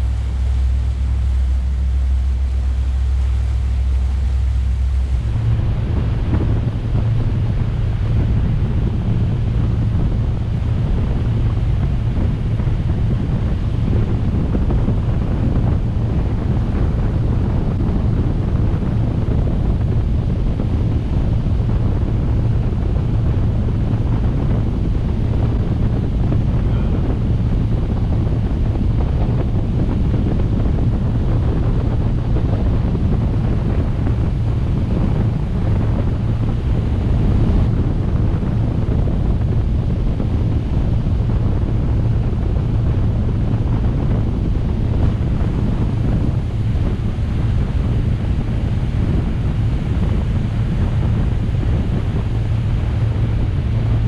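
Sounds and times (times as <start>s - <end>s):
low steady drone: 0.0s - 54.0s
water rushing along boat hull: 0.0s - 54.0s
wind buffeting microphone: 0.0s - 54.0s.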